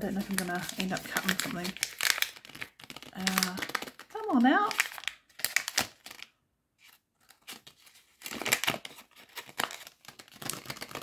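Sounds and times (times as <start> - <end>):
thin wrapper crinkling: 0.0 - 11.0.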